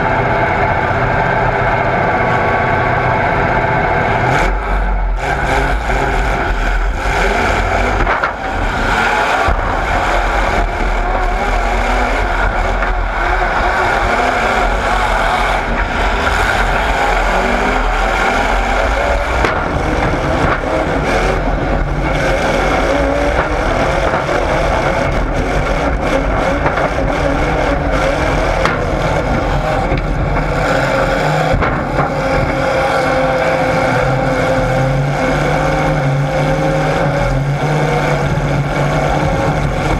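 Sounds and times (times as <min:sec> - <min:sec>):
vehicle engines revving: 0:00.0 - 0:39.9.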